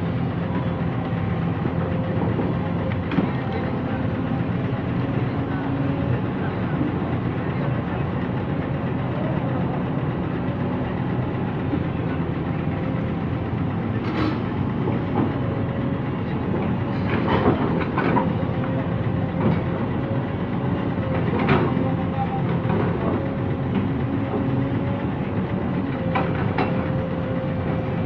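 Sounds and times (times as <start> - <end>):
excavator diesel engine under load: 0.0 - 28.0.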